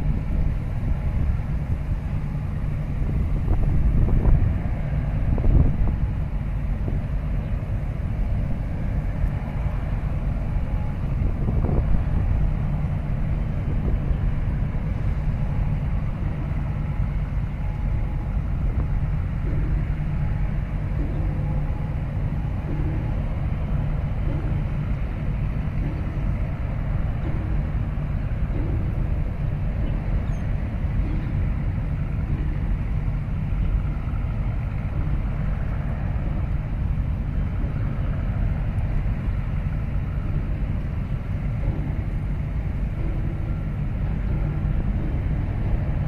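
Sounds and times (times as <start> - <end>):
ship engines rumbling: 0.0 - 46.0
wind buffeting microphone: 0.0 - 46.0.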